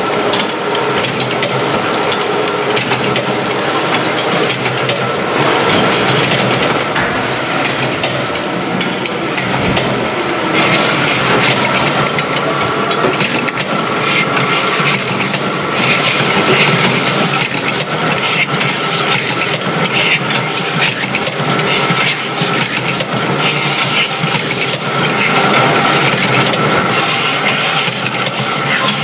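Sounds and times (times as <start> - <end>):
fish gutting machine running: 0.0 - 29.0.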